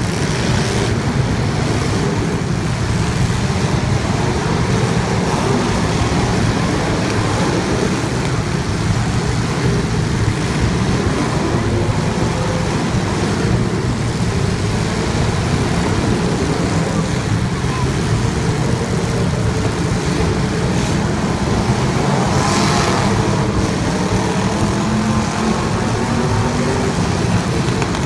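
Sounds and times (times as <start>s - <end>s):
vehicle drone with hiss: 0.0s - 28.0s.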